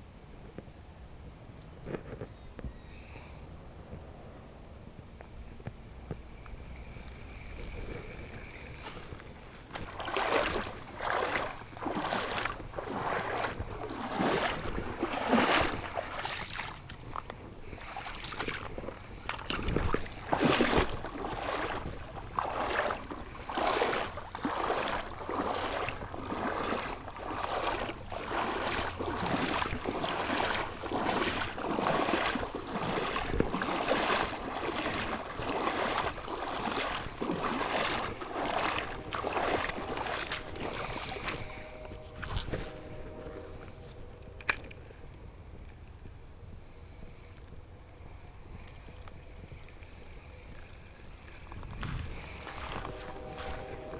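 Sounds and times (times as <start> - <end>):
water sloshing and splashing: 5.4 - 44.8, 48.8 - 53.9.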